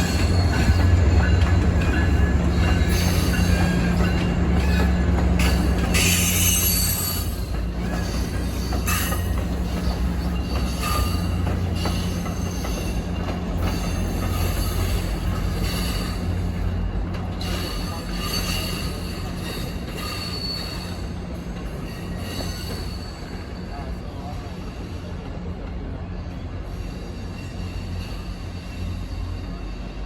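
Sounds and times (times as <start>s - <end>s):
train rumbling: 0.0s - 30.0s
train wheel squeal: 0.0s - 30.0s.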